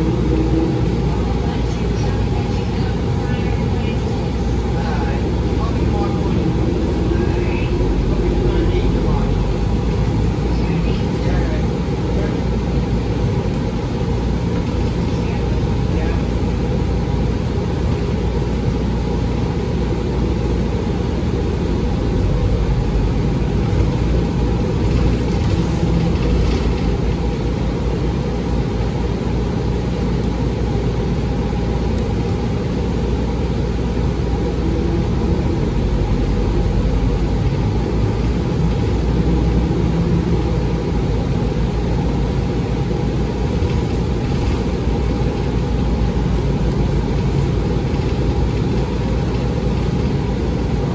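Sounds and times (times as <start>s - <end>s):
bus engine low rumble: 0.0s - 50.9s
faint steady whine: 0.0s - 50.9s.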